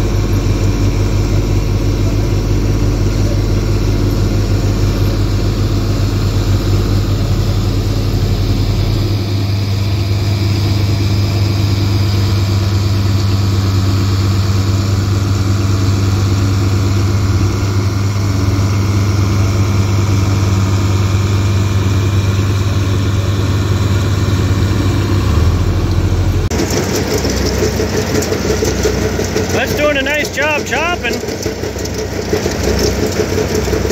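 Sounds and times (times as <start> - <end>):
tractor engine idling: 0.0 - 33.9
forage rushing through harvester: 2.0 - 33.9.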